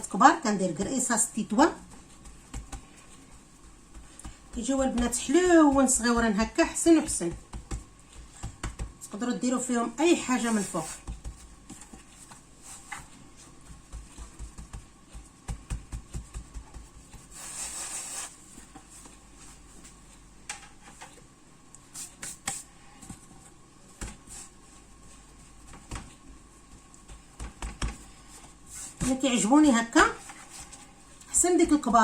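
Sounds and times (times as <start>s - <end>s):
hands patting dough: 0.0s - 21.0s, 21.7s - 32.0s.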